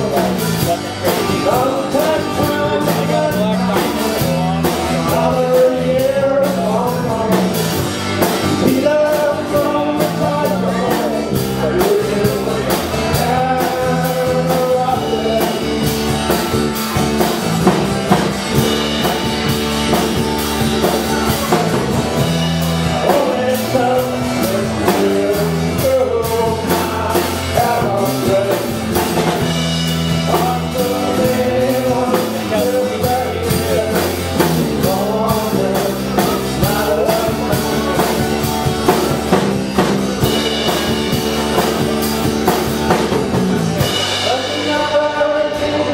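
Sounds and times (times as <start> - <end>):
acoustic and electric guitars: 0.0 - 45.9
drum kit beat: 0.0 - 45.9
man singing: 0.0 - 45.9.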